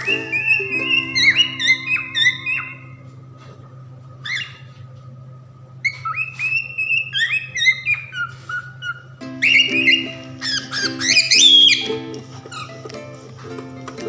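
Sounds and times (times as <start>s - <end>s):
cockatiels whistling: 0.0s - 3.6s, 4.2s - 4.8s, 5.8s - 13.2s
steady low hum: 0.0s - 14.0s.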